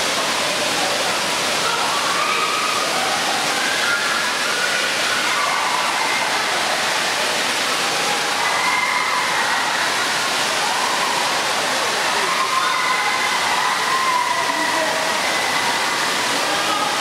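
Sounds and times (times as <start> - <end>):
faint voices: 0.0 - 17.0
water falling and splashing: 0.0 - 17.0.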